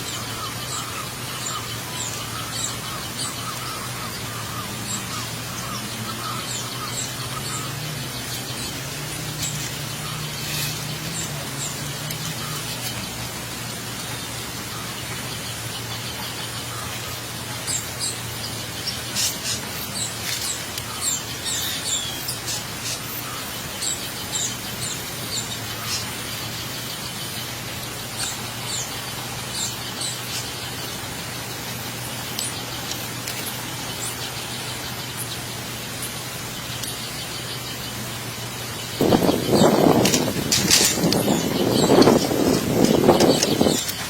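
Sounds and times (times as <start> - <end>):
background hiss: 0.0 - 44.0
small birds chirping: 0.0 - 44.0
steady low hum: 0.0 - 44.0.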